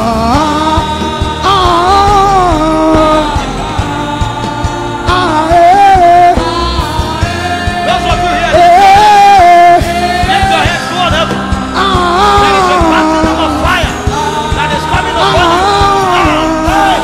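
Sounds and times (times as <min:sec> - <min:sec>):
gospel worship music: 0:00.0 - 0:17.0.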